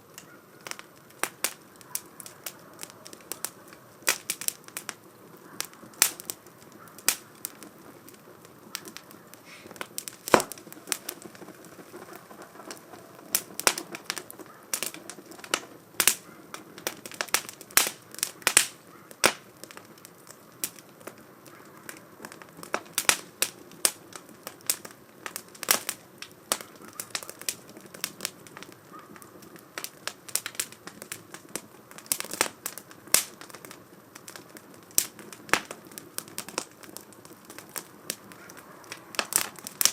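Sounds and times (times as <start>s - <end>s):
hiss of flame: 0.0s - 39.9s
wood fire crackling and popping: 0.0s - 39.9s.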